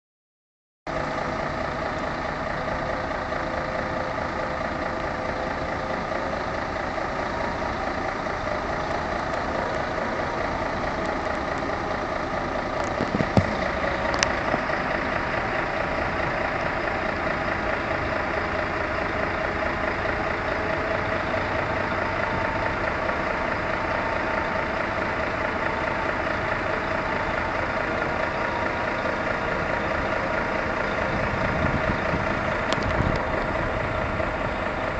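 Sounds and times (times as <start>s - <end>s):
crane diesel engine running: 0.9s - 34.9s.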